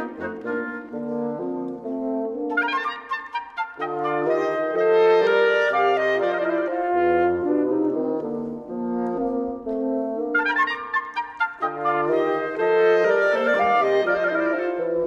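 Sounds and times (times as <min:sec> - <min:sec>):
low bassoon line: 0:00.0 - 0:15.0
wind quintet playing: 0:00.0 - 0:15.0.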